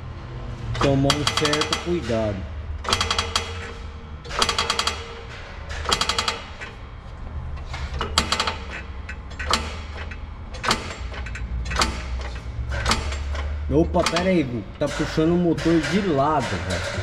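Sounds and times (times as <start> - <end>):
floor jack pumping clatter: 0.6 - 17.0.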